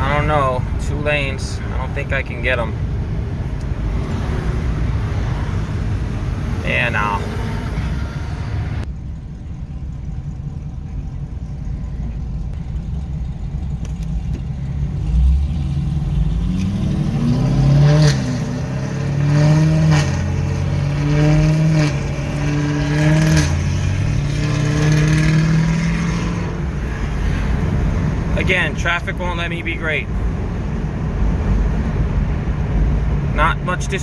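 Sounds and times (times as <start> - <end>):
car exhaust revving: 0.0 - 34.0
road rumble: 0.0 - 34.0.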